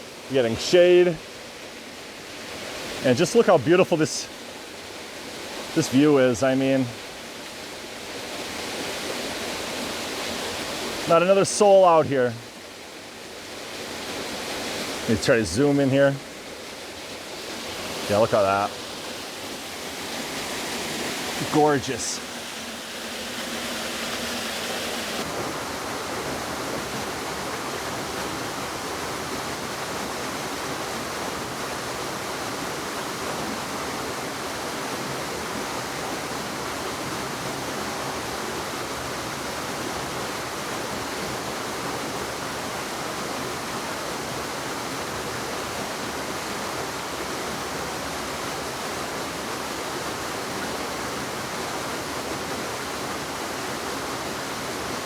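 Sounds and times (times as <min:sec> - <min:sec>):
waterfall rushing: 0:00.1 - 0:55.0.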